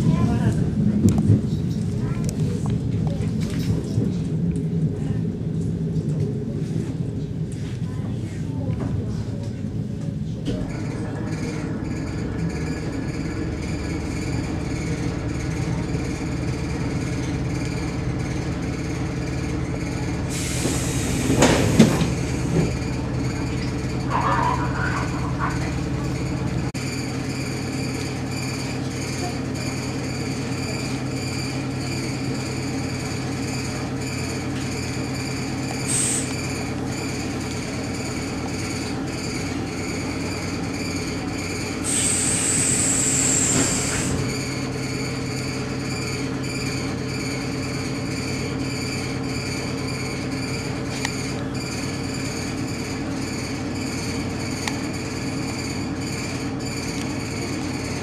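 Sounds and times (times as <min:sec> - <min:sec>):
train running rumble and hum: 0:00.0 - 0:58.0.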